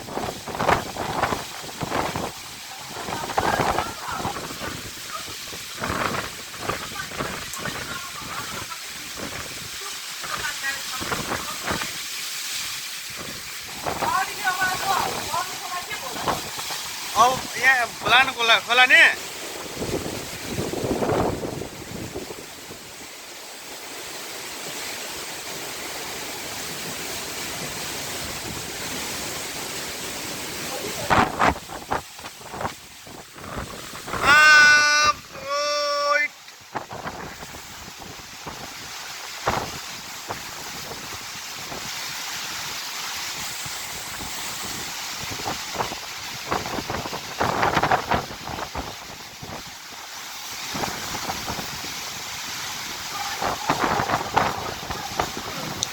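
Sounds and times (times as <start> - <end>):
rain: 0.0 - 55.9
storm wind: 0.0 - 55.9.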